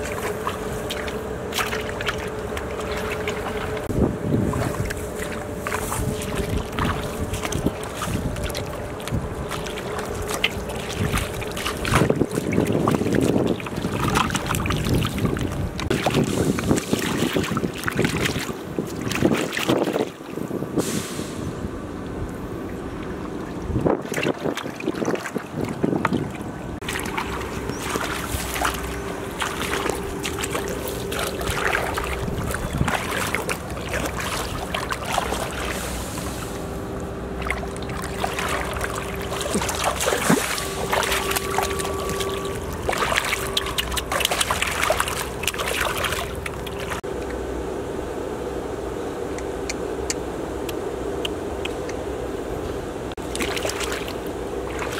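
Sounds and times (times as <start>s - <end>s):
muddy water splashing and sloshing: 0.0s - 47.5s, 49.4s - 54.9s.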